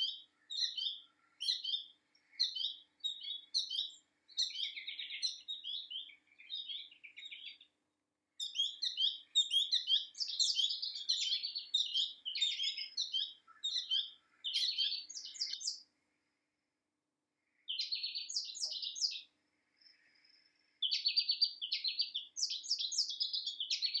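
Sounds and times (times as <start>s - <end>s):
small bird twittering: 0.0s - 7.7s, 8.4s - 15.8s, 17.7s - 19.3s, 20.8s - 24.0s.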